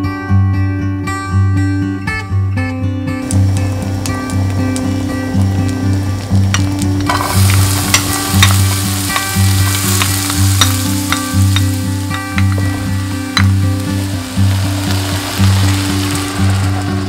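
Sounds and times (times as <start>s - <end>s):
onion sizzling in frying pan: 3.2s - 17.0s.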